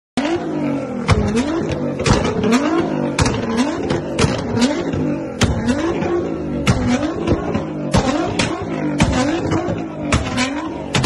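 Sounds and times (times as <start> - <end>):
car engine revving: 0.2 - 11.0
exhaust pops and bangs: 0.2 - 11.0.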